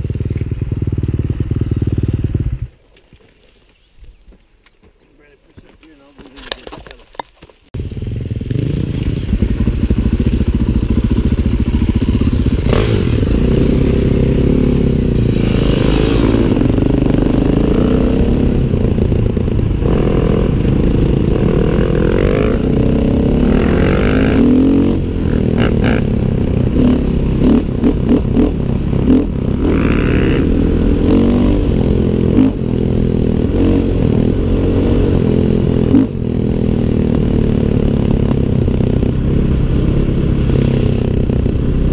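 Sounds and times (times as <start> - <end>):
dirt bike engine running: 0.0 - 2.8, 7.8 - 41.9.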